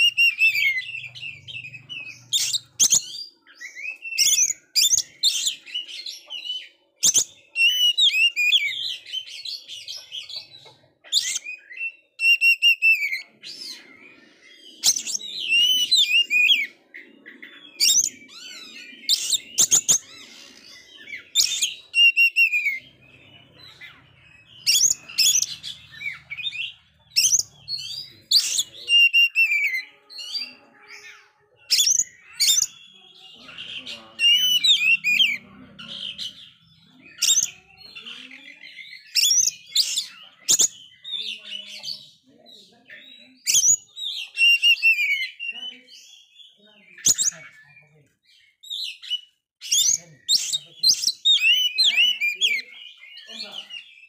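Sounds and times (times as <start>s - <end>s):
bird singing whistles and chirps: 0.0s - 42.2s, 43.0s - 54.0s.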